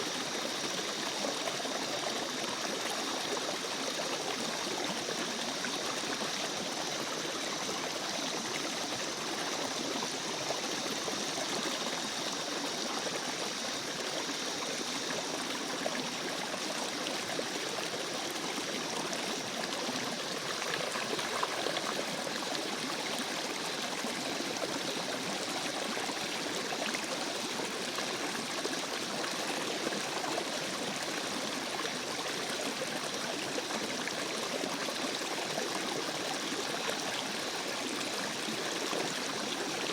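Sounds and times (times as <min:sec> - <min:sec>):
stream babbling: 0:00.1 - 0:39.9.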